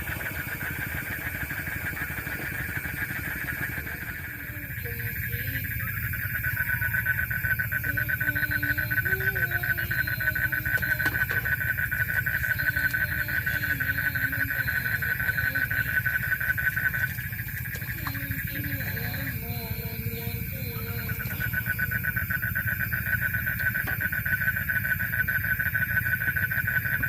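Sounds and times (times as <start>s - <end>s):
animal buzzing pulsed trill: 0.0s - 26.9s
steady low hum: 0.0s - 27.0s.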